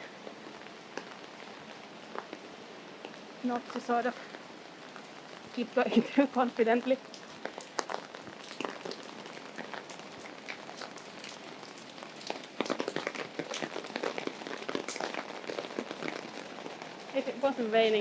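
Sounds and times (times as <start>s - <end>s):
rain on umbrella: 0.0s - 18.0s.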